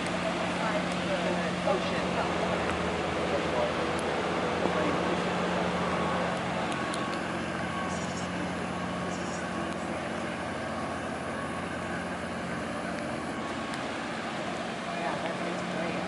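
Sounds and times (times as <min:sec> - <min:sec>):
boat diesel engine drone: 0:00.0 - 0:16.0.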